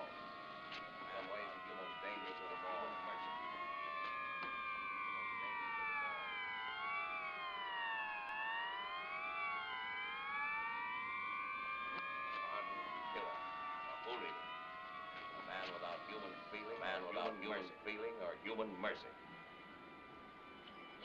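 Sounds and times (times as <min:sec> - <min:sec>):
siren-like gliding tones: 0:00.0 - 0:21.0.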